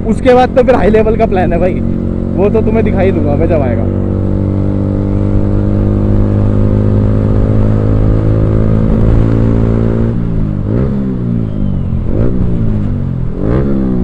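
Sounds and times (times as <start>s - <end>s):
motorcycle engine revving: 0.3s - 14.0s.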